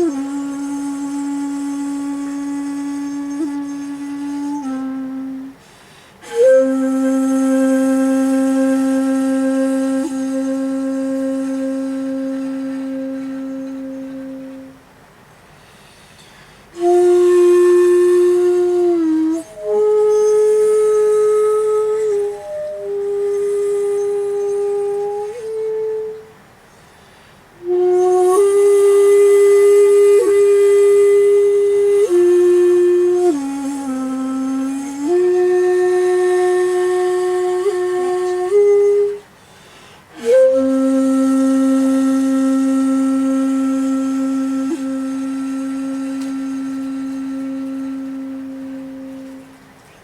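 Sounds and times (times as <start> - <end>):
bamboo flute long low note: 0.0 - 15.0, 15.6 - 50.0.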